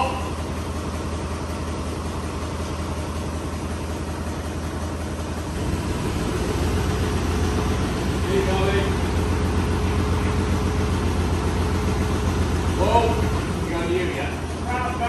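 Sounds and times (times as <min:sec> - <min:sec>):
forklift engine idling: 0:00.0 - 0:15.0.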